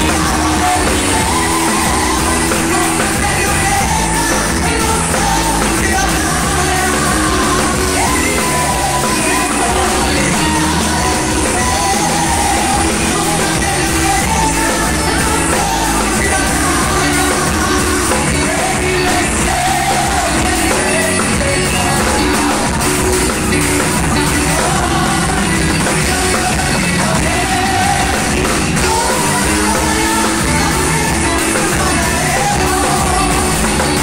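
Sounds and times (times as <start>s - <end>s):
amplified band playing: 0.0s - 34.0s
drum kit: 0.0s - 34.0s
person singing: 0.0s - 34.0s.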